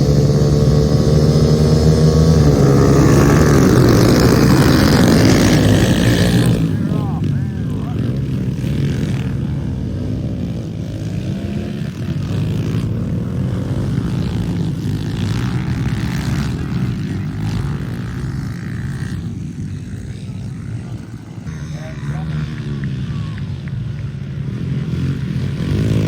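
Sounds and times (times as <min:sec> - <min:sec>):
small motorcycle engine running: 0:00.0 - 0:26.0.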